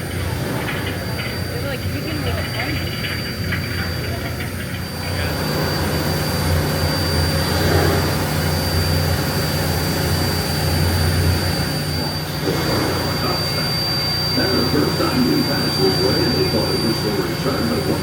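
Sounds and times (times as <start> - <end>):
boat engine droning: 0.0 - 18.0
thin high whine: 0.0 - 18.0.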